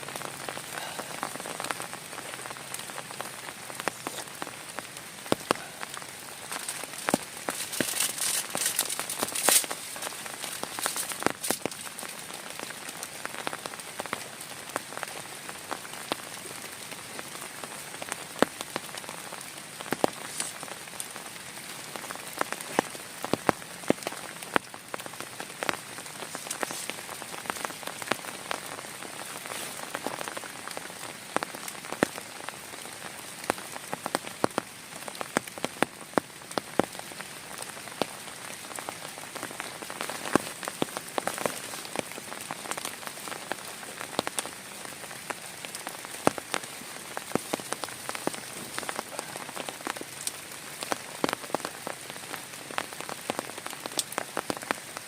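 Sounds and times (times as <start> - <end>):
heavy rain hiss: 0.0 - 55.0
raindrops tapping close by: 0.0 - 55.0.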